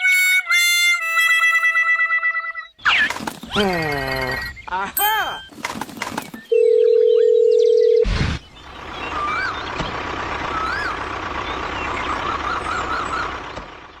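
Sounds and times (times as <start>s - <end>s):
birds chirping: 2.5s - 14.0s.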